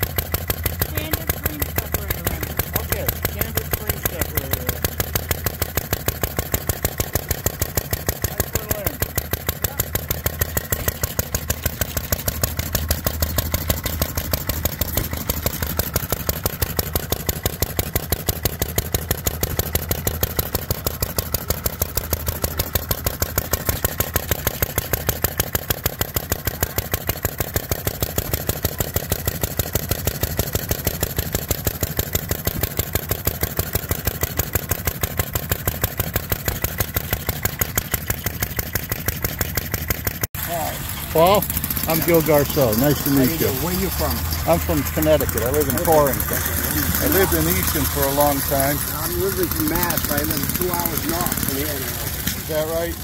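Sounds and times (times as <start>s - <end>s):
model gas engine popping: 0.0s - 53.0s.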